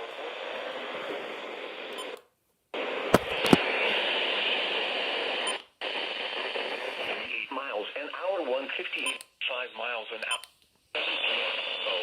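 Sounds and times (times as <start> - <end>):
radio static hiss: 0.0 - 2.2, 2.8 - 10.3, 11.0 - 12.0.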